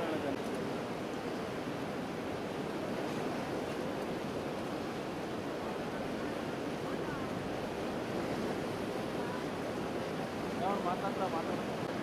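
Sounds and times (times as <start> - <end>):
floodwater rushing over road: 0.0 - 12.0.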